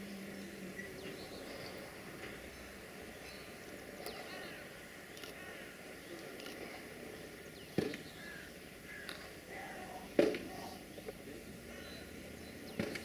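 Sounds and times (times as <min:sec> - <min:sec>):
birds chirping: 0:00.0 - 0:13.0
low steady background rush: 0:00.0 - 0:13.0.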